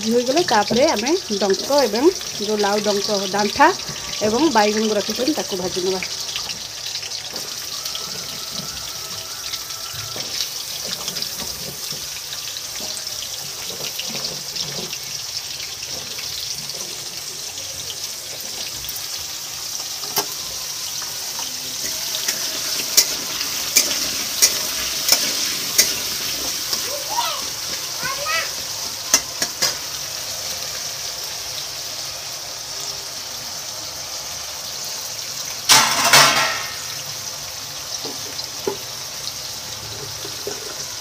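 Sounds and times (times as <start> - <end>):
vegetables frying in hot oil: 0.0 - 41.0.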